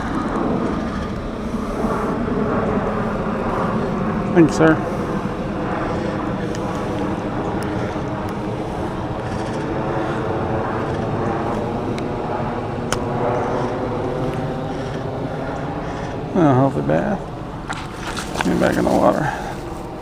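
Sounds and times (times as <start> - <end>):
steady engine drone: 0.0 - 20.0.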